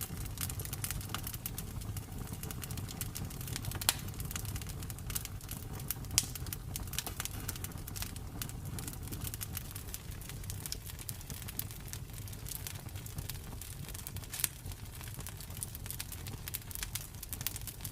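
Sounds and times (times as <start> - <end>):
campfire crackling: 0.0 - 17.9
sharp fire pops: 0.0 - 17.9.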